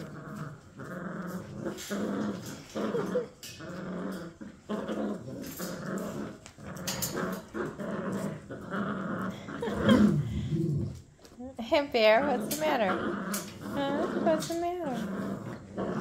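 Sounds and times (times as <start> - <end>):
puppies growling: 0.0 - 16.0.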